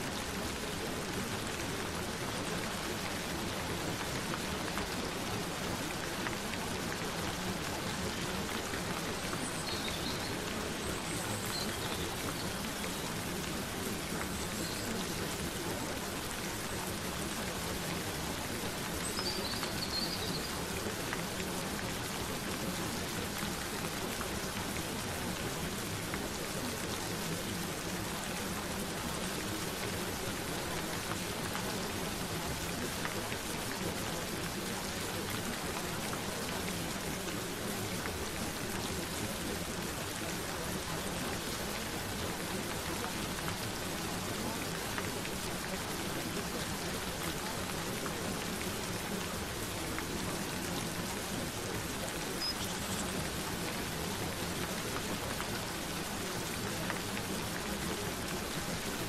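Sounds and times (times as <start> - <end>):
raindrops pattering: 0.0 - 59.0
steady rain hiss: 0.0 - 59.0.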